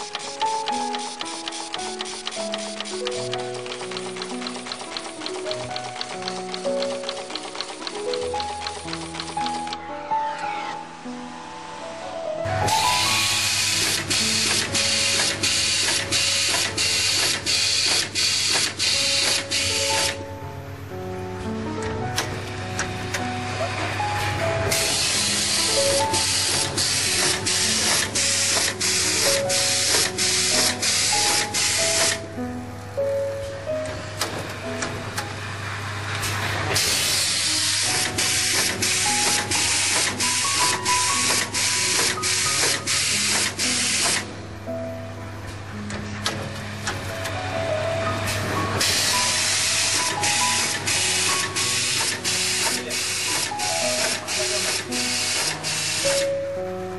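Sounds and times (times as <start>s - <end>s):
machine hissing mechanical noise: 0.0s - 9.8s, 12.6s - 20.2s, 22.2s - 32.3s, 33.8s - 44.4s, 45.7s - 56.4s.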